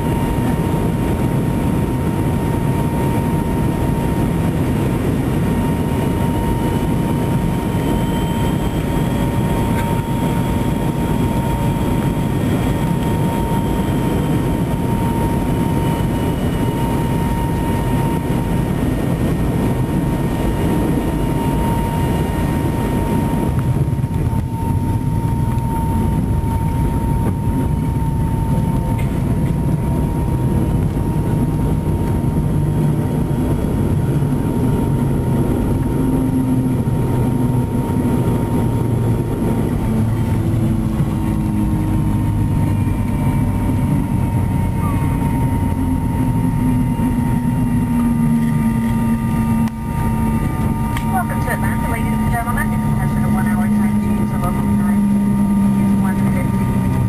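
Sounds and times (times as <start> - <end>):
jet engine whine: 0.0 - 57.0
low rumble: 0.0 - 57.0.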